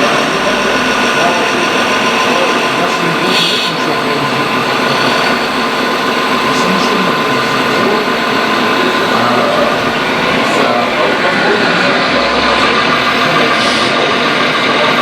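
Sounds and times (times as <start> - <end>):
electric hydraulic pump whine: 0.0 - 15.0.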